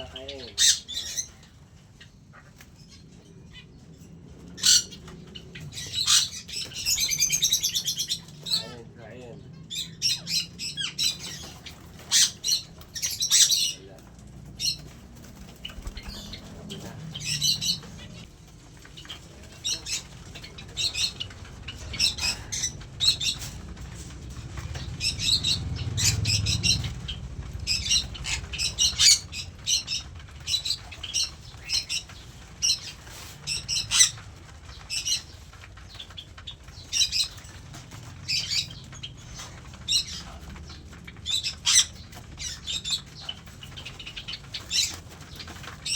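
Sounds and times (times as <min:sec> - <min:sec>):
birds chirping and squawking: 0:00.0 - 0:45.9
low rumbling: 0:00.0 - 0:45.9
wing flapping: 0:00.0 - 0:45.9.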